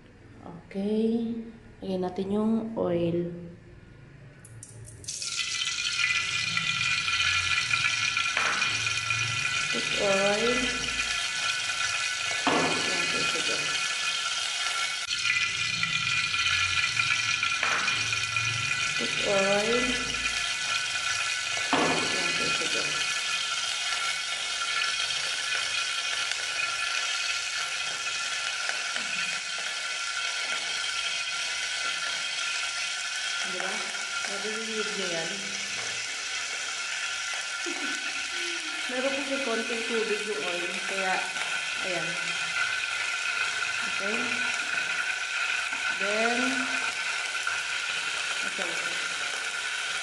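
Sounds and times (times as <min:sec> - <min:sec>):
oil sizzling in a pot: 0:04.6 - 0:50.0.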